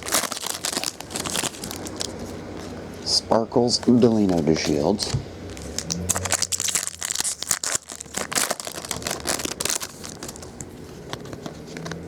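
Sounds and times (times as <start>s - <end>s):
trading cards crinkling and rustling: 0.0s - 12.0s.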